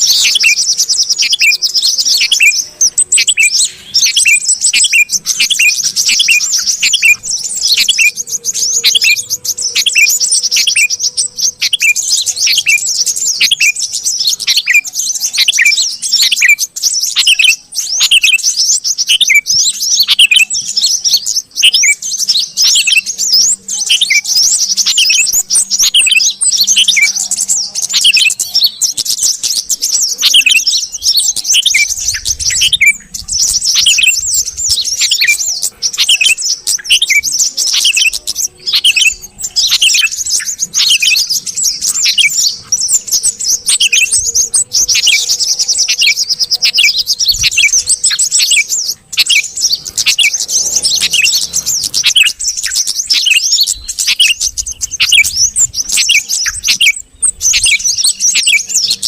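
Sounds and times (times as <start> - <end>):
birds chattering: 0.0 - 59.0
downward-sweeping bird calls: 0.0 - 59.0.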